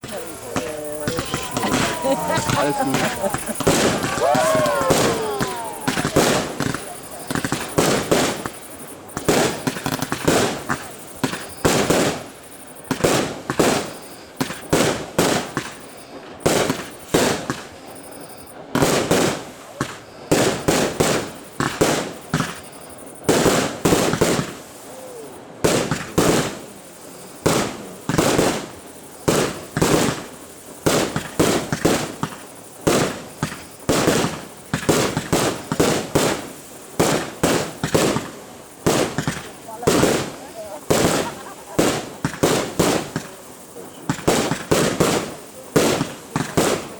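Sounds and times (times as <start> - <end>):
fireworks banging: 0.0 - 46.9.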